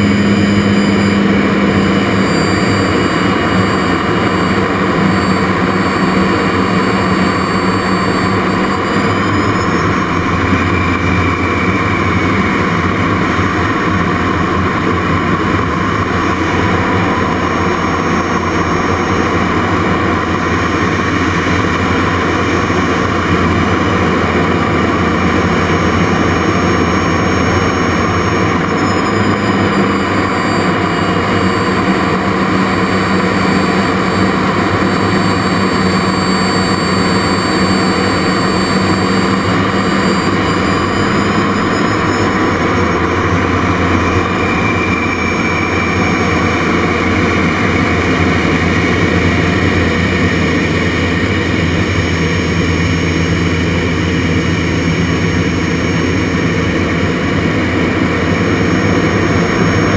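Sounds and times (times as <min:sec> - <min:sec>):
high whine: 0:00.0 - 0:59.9
jet engine running: 0:00.0 - 0:59.9.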